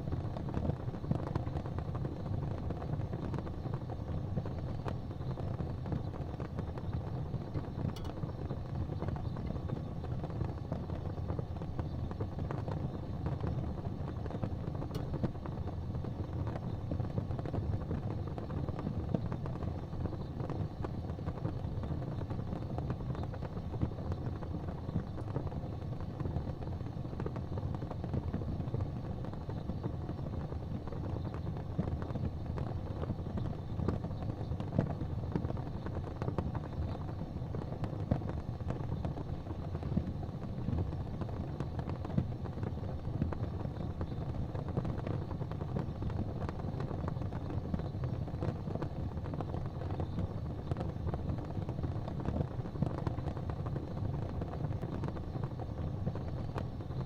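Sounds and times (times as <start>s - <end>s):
fire crackling: 0.0s - 57.0s
fire popping: 0.0s - 57.0s
steady low rumble: 0.0s - 57.0s.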